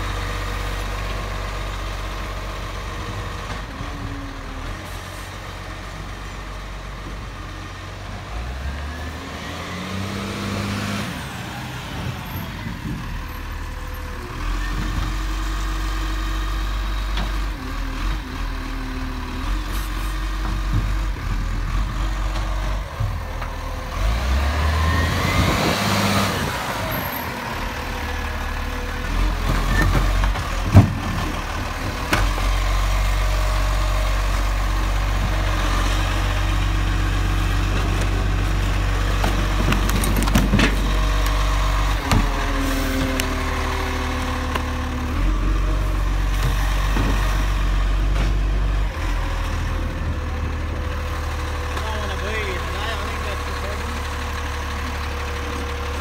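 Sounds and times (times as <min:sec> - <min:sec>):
garbage truck diesel engine revving: 0:00.0 - 0:56.0.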